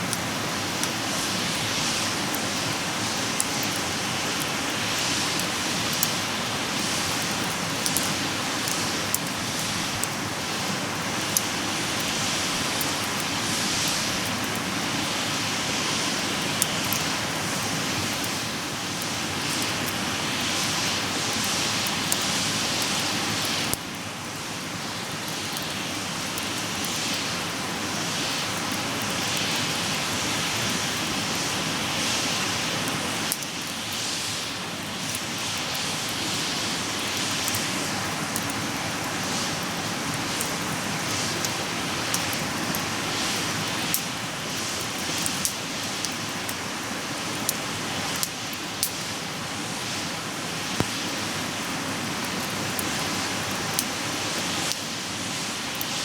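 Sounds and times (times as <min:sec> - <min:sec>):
campfire hissing: 0:00.0 - 0:56.0.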